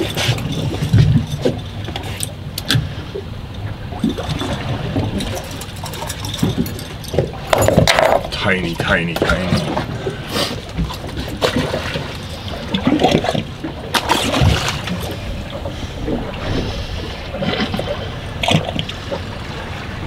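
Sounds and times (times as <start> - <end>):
water splashing against boat hull: 0.0 - 20.0.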